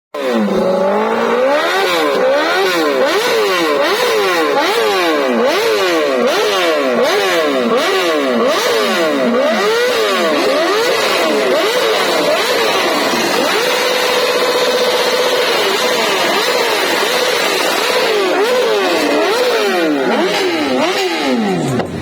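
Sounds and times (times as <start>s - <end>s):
motorcycle engine revving: 0.2s - 22.0s.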